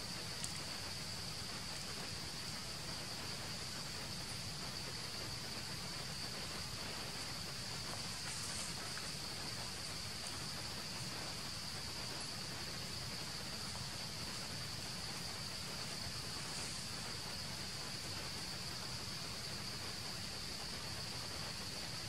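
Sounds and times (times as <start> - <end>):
forest background hiss: 0.0 - 22.0.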